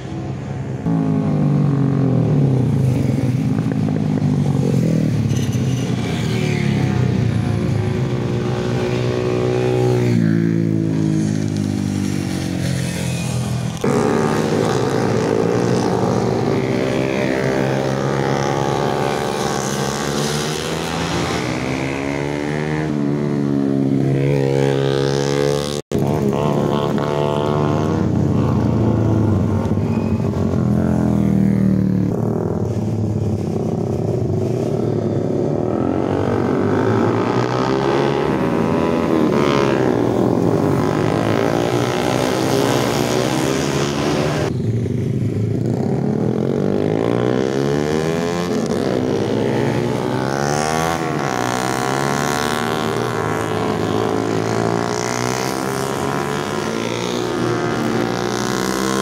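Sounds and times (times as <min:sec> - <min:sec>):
motorcycles passing at speed: 0:00.0 - 0:59.0.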